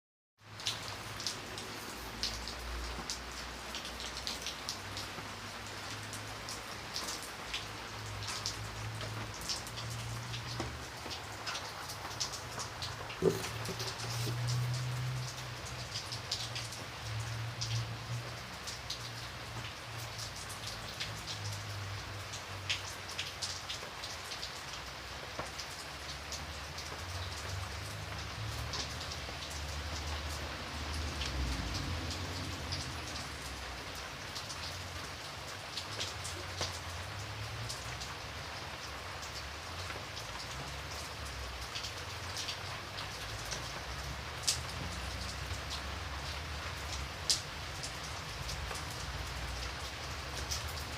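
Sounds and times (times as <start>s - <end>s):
steady rain hiss: 0.4s - 50.9s.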